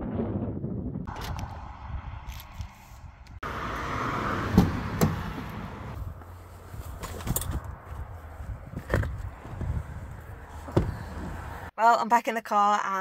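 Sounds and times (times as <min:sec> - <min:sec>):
wind buffeting microphone: 0:00.0 - 0:03.4, 0:04.3 - 0:11.7.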